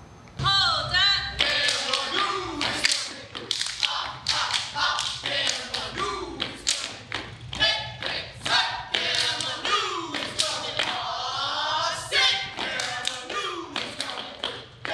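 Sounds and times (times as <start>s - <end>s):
people's voices partly sung: 1.3s - 14.9s.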